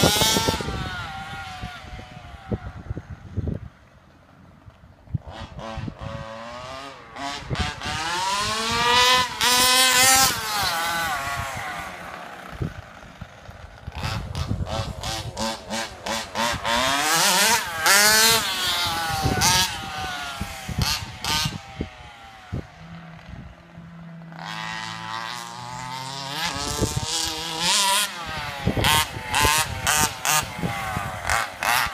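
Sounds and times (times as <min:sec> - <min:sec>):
small two-stroke engine revving: 0:00.0 - 0:31.9.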